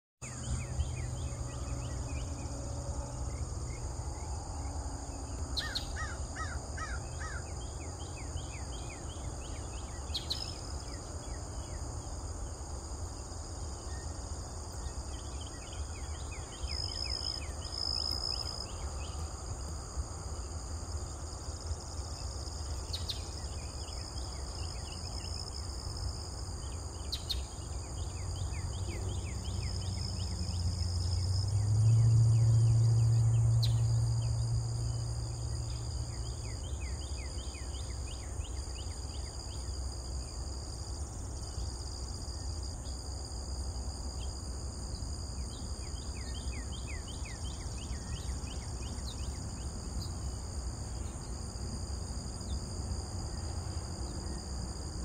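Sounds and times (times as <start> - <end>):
insects trilling: 0.2 - 55.0.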